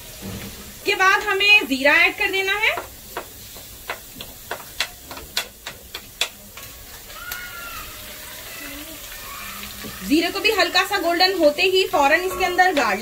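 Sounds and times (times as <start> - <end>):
seeds and onions sizzling in oil: 0.0 - 13.0
spatula stirring a pan: 0.0 - 13.0.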